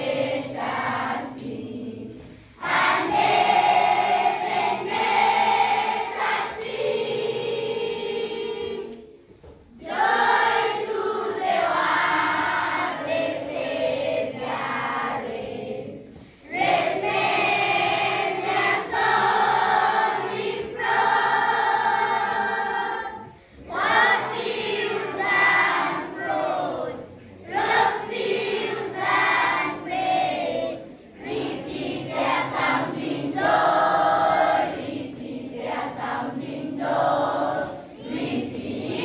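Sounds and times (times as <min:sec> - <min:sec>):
group of voices singing: 0:00.0 - 0:39.0.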